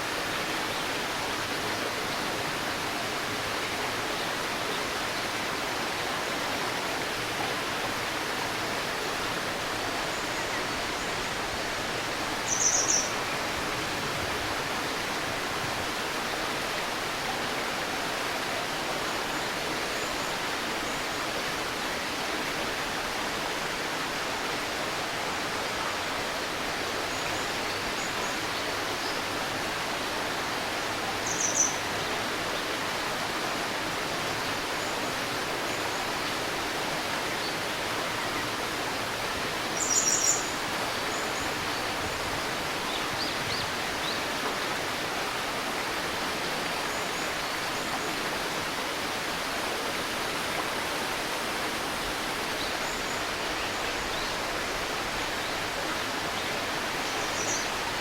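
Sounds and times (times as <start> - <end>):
shallow river babbling: 0.0 - 58.0.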